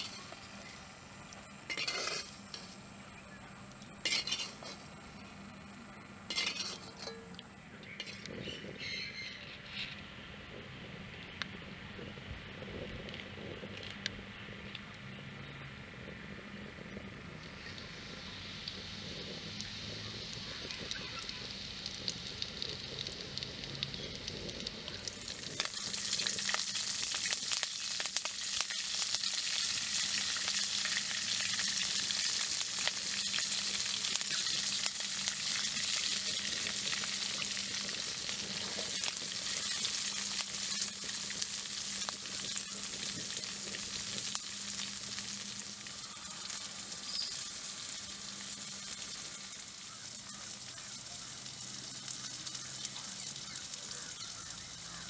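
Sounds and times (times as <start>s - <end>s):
oil spitting crackles: 0.0s - 3.0s, 3.8s - 5.0s, 6.3s - 8.9s, 16.7s - 55.0s
leaves and shallots sizzling in oil: 0.0s - 15.2s, 16.4s - 55.0s.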